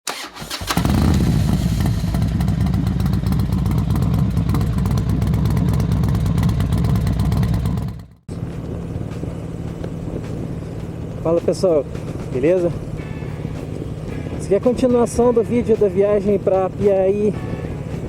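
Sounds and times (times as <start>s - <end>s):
motorcycle engine rumbling: 0.1s - 18.0s.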